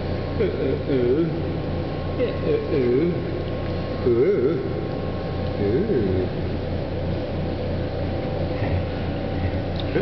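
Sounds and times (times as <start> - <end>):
faint constant hum: 0.0 - 10.0.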